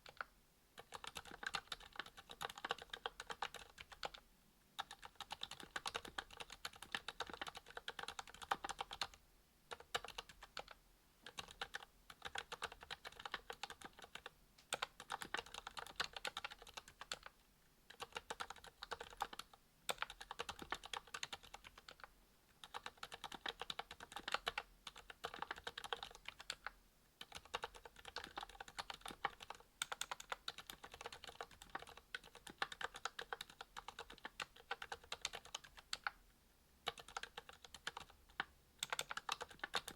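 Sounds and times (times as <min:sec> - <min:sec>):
mechanical keyboard typing: 0:00.0 - 0:04.2, 0:04.8 - 0:17.3, 0:17.9 - 0:36.2, 0:36.8 - 0:39.9.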